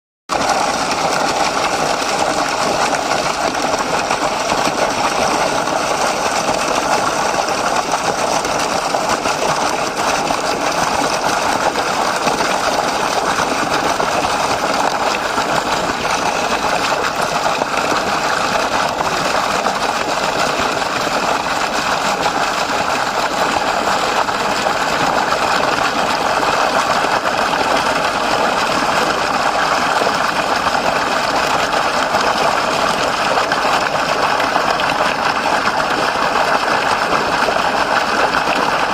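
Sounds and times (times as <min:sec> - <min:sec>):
spring water flowing and splashing: 0:00.3 - 0:38.9.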